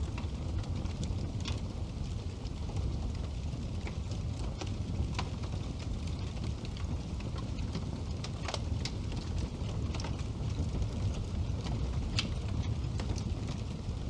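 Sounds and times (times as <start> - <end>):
fire crackles and pops: 0.0 - 14.0
fire flames rumbling: 0.0 - 14.0.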